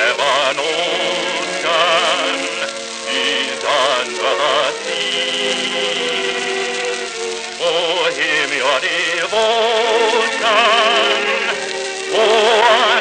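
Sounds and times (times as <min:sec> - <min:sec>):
orchestral music: 0:00.0 - 0:13.0.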